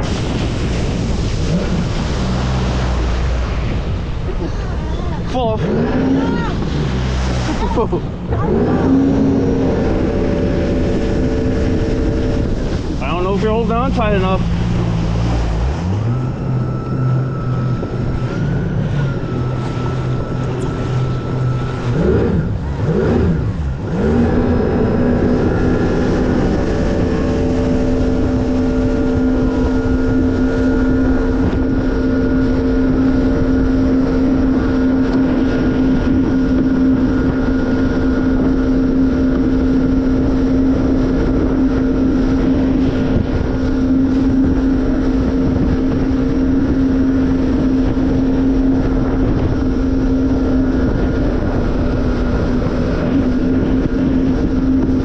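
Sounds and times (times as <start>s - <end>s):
jet ski engine drone: 0.0s - 55.0s
wind and water rushing: 0.0s - 55.0s.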